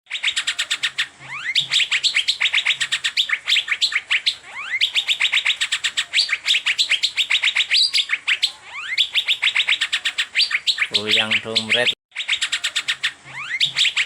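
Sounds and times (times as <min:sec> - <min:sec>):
bird chirping rapidly: 0:00.1 - 0:14.0.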